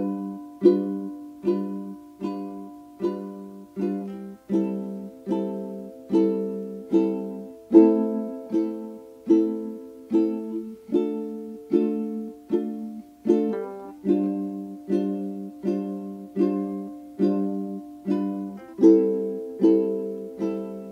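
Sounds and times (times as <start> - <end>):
strummed string instrument chords: 0.0 - 20.9.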